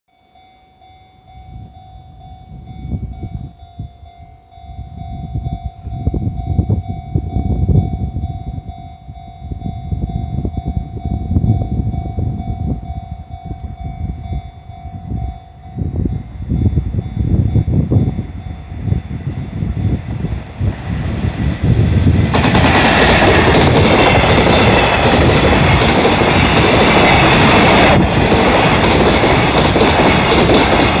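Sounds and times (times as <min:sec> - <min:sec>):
level-crossing warning bell: 0:00.1 - 0:21.0, 0:22.6 - 0:31.0
freight train rumble: 0:00.3 - 0:31.0.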